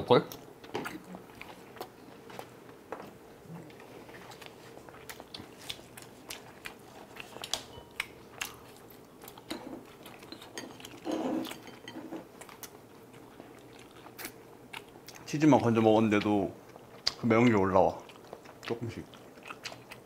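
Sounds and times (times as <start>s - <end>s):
wet chewing and smacking: 0.3s - 15.3s, 16.1s - 20.0s.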